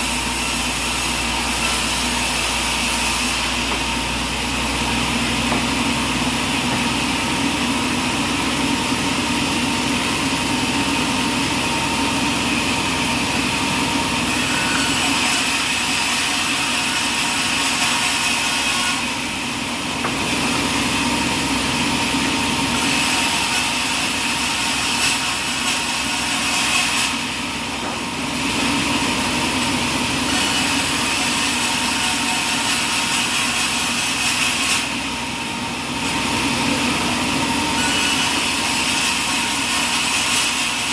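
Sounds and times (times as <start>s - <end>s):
saw blade cutting log: 0.0s - 40.9s
steady motor running: 0.0s - 40.9s.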